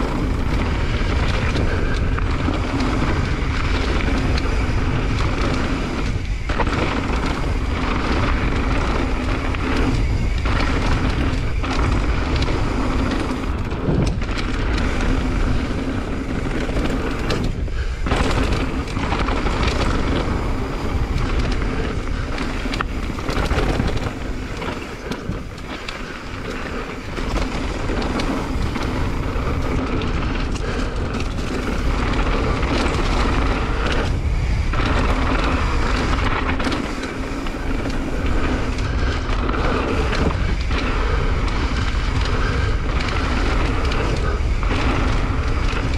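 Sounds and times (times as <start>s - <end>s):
bike rattling over bumps: 0.0s - 45.9s
bike tyres rolling on dirt: 0.0s - 45.9s
wind on microphone: 0.0s - 45.9s.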